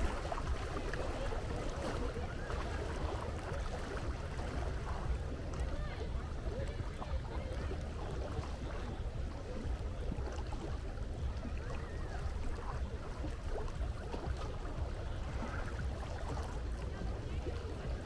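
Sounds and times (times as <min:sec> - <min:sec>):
low rumble of sea: 0:00.0 - 0:18.0
wind: 0:00.0 - 0:18.0.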